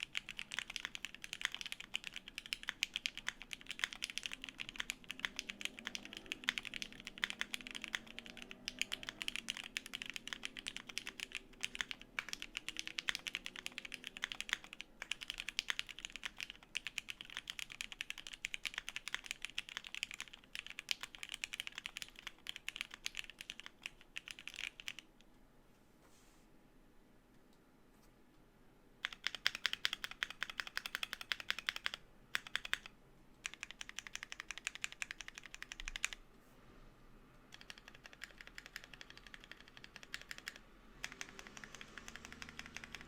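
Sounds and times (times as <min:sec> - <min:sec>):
mechanical keyboard typing: 0:00.0 - 0:25.2, 0:29.0 - 0:36.2, 0:37.5 - 0:43.0.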